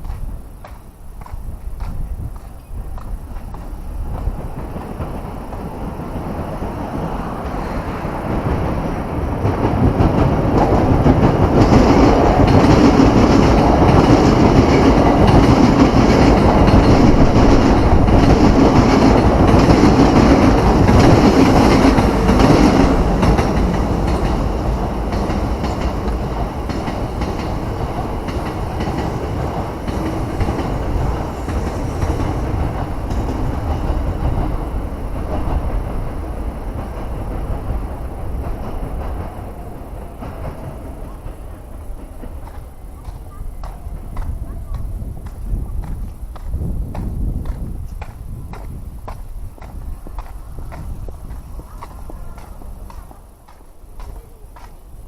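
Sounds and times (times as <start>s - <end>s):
electric train wheels clattering: 0.0s - 55.0s.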